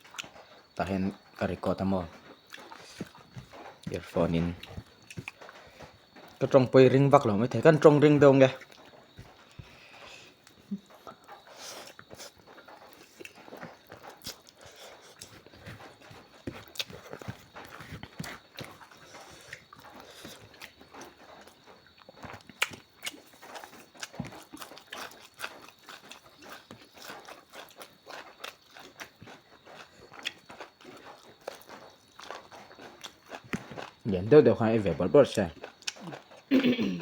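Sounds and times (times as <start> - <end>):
person chewing and lip smacking: 0.0 - 1.4, 2.1 - 6.5, 7.8 - 34.0, 35.5 - 36.8.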